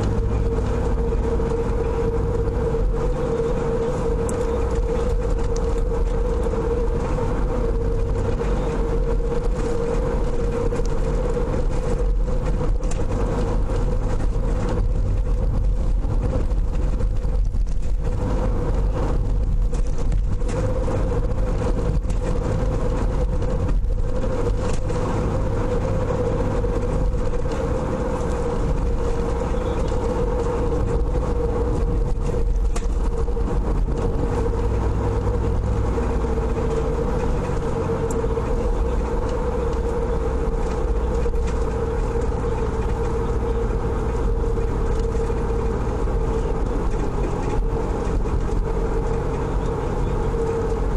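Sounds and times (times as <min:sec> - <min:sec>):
car engine and tyre road noise: 0:00.0 - 0:50.9.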